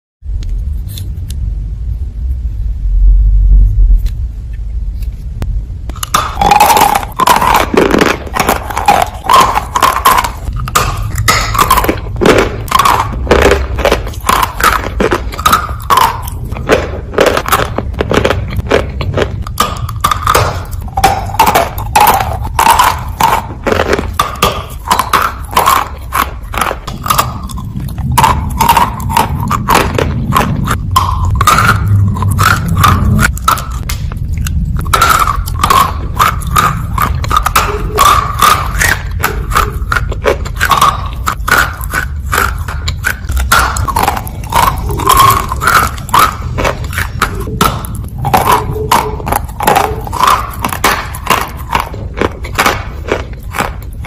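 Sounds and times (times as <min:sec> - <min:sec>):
low rumble: 0:00.2 - 0:54.0
crunching of dry clay being chewed: 0:05.9 - 0:54.0.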